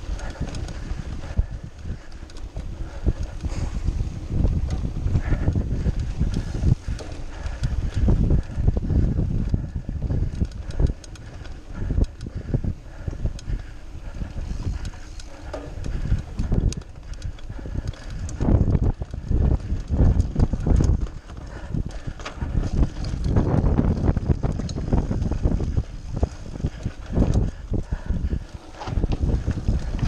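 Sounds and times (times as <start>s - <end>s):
bike rattling and knocking: 0.0s - 30.0s
bike tyre rumble: 0.0s - 30.0s.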